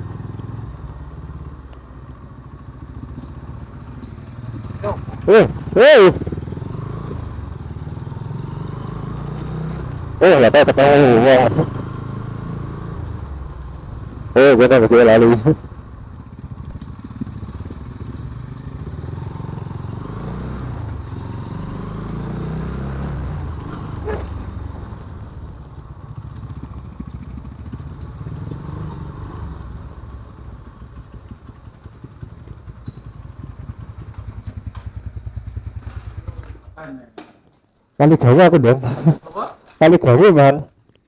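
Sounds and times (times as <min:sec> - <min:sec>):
motorcycle engine running: 0:00.0 - 0:36.8.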